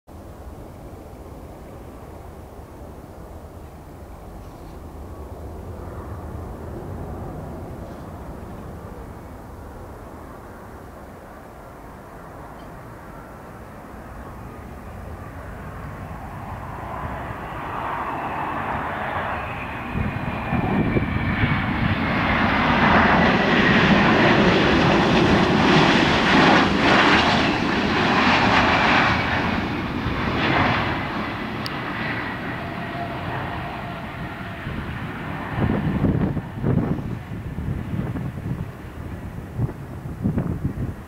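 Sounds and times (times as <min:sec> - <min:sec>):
jet airliner engines roaring: 0:00.1 - 0:41.0.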